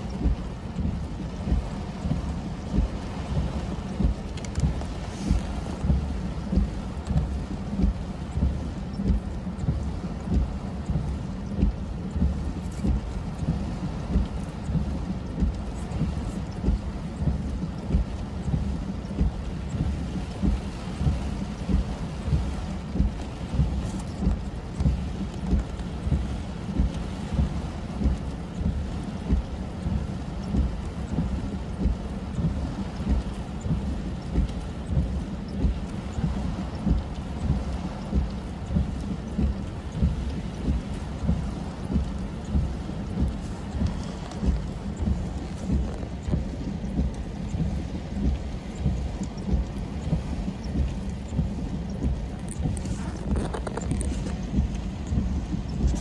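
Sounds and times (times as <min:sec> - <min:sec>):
rain drumming on car roof: 0:00.0 - 0:56.0
windshield wipers sweeping: 0:00.0 - 0:56.0.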